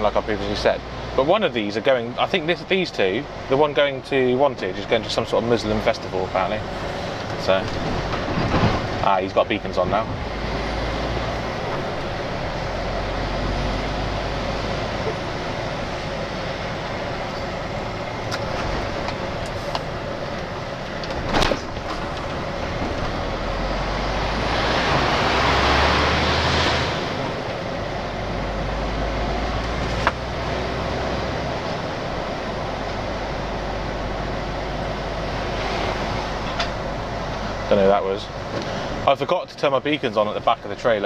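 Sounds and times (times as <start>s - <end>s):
lorry engine and road noise: 0.0s - 41.0s.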